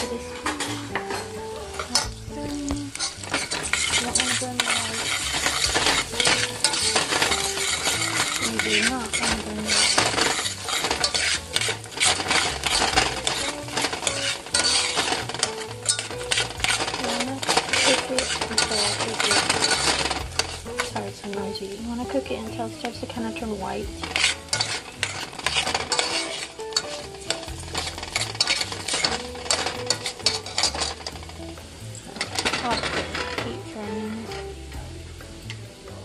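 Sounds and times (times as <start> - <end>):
utensil scraping a pan: 0.0 - 34.8
rice sizzling in hot oil: 0.0 - 36.0.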